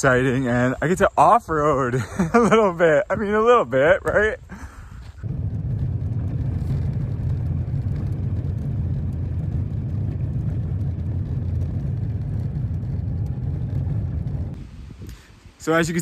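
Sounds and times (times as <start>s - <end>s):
tyres on dirt: 0.0s - 14.6s
vehicle rumbling: 0.0s - 15.7s.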